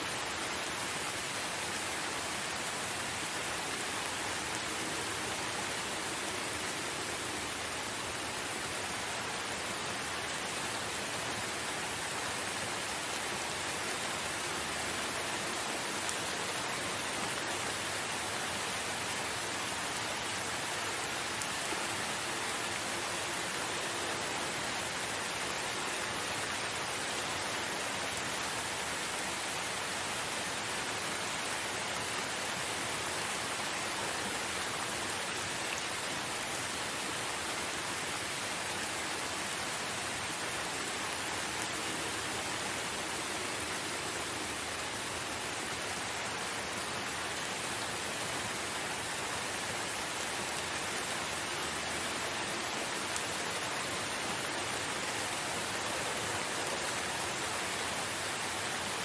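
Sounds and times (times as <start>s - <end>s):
steady rain in forest: 0.0s - 59.0s.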